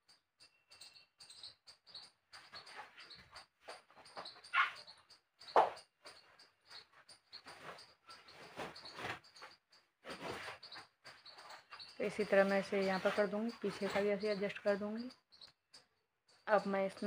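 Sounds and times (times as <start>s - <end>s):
yarn and crochet hook rustling: 1.0s - 15.7s.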